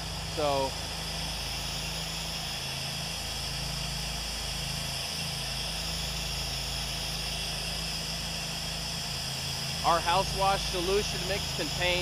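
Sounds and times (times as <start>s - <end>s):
pressure washer engine running: 0.0s - 12.0s.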